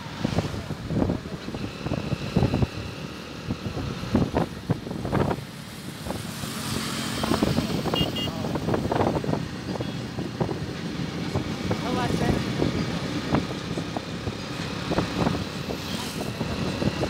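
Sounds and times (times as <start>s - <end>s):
road vehicle running noise: 0.0s - 17.0s.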